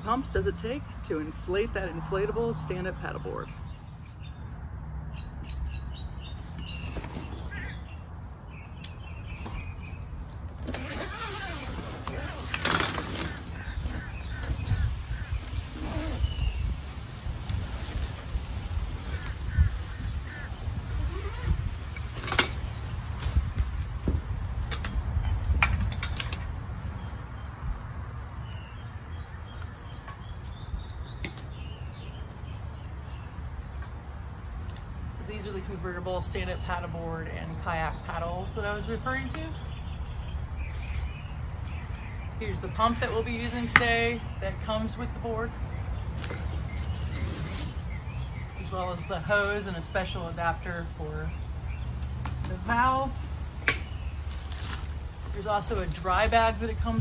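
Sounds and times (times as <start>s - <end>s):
small birds chirping: 0.1s - 57.0s.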